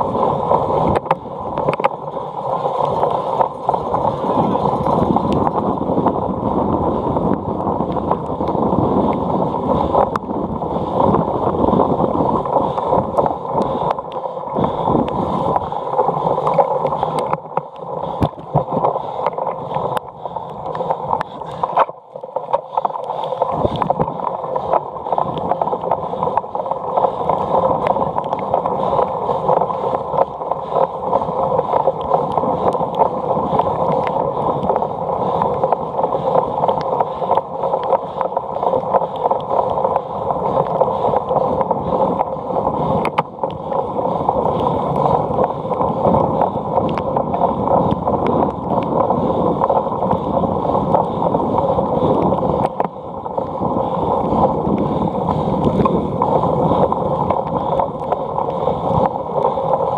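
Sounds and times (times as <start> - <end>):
bike clicks and rattles: 0.0 - 59.9
wind on microphone: 0.0 - 59.9.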